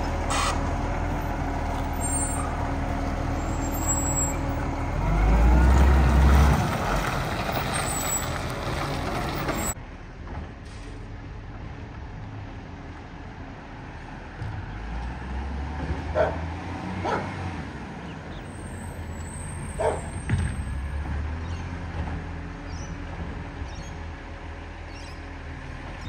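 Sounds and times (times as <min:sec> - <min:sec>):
garbage truck diesel engine: 0:00.0 - 0:26.0.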